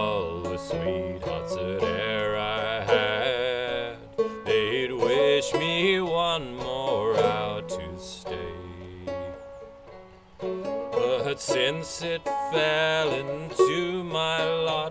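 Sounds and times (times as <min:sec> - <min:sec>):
banjo playing slow melody: 0:00.0 - 0:14.9.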